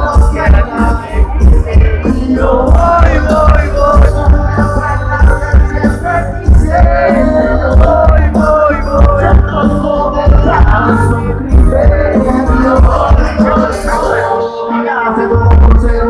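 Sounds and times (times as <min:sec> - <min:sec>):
heavy bass beat: 0:00.0 - 0:14.2
person singing: 0:00.0 - 0:16.0.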